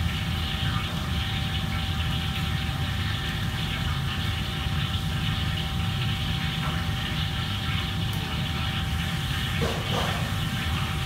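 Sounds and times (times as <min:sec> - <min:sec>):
kitchen machinery drone: 0:00.0 - 0:11.0.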